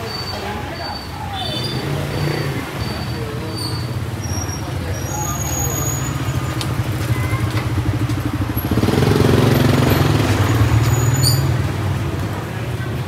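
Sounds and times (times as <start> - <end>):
motor scooter engines: 0.0 - 13.0.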